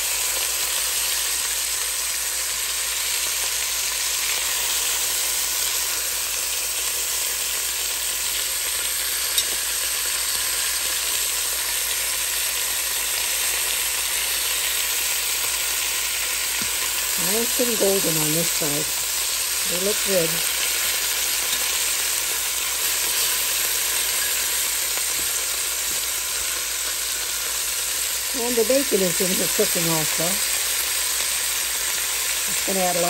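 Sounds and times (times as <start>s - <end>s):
meat frying in oil: 0.0s - 33.0s.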